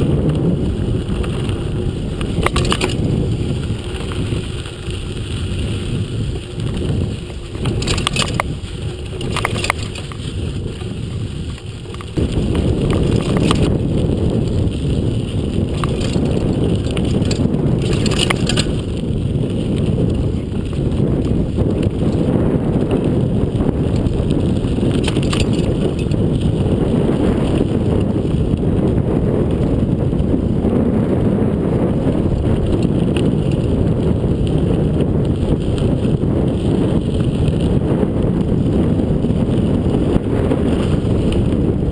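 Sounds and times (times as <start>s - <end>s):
bike clicks and rattles: 0.0s - 41.9s
tyre and wind rush: 0.0s - 41.9s.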